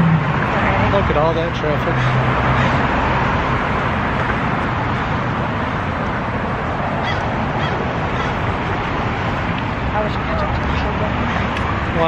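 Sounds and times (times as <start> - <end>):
cars driving by: 0.0 - 12.0
low engine hum: 0.0 - 12.0.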